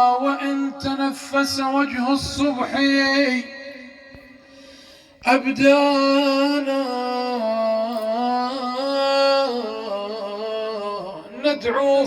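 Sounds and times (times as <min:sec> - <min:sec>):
man chanting a lament: 0:00.0 - 0:12.0.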